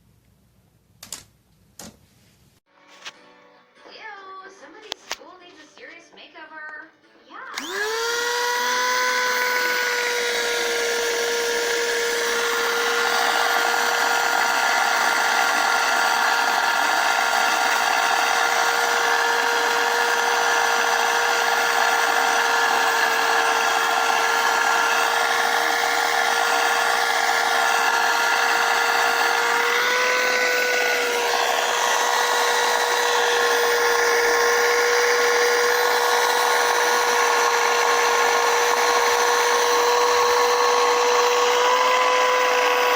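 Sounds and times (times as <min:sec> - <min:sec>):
vacuum cleaner motor whining: 0:07.5 - 0:42.9.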